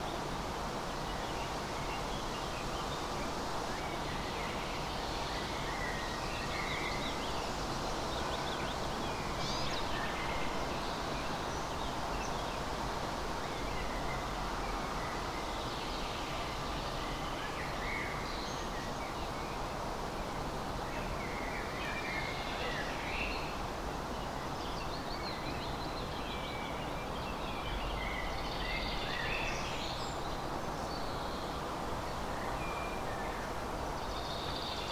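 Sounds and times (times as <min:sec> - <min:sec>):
steady background hiss: 0:00.0 - 0:34.9.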